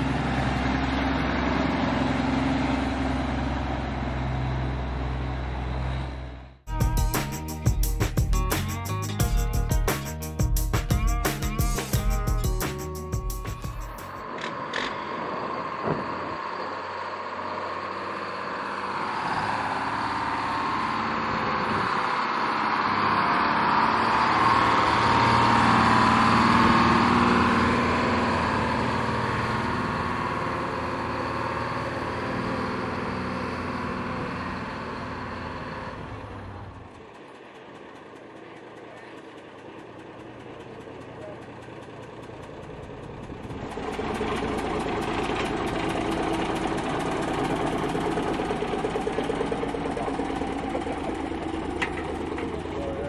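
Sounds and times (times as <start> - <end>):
diesel truck engine hum: 0.0 - 53.0.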